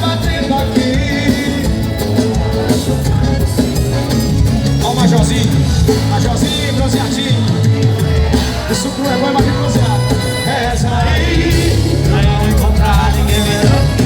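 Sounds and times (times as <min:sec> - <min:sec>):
live band music: 0:00.0 - 0:14.0
person singing: 0:00.0 - 0:14.0.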